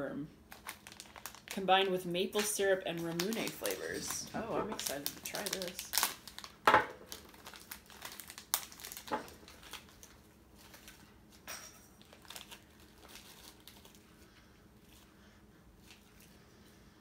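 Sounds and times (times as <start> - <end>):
plastic candy packet crinkling: 0.5 - 14.2.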